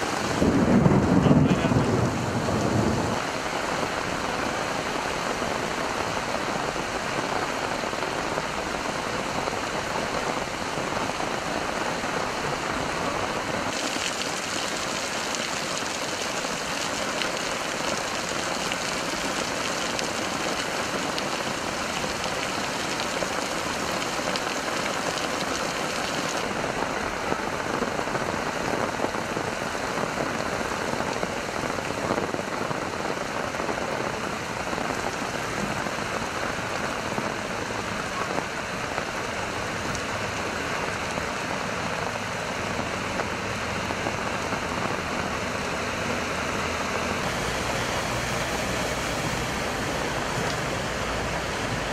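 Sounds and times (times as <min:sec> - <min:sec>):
heavy rain hissing: 0:00.0 - 0:51.9.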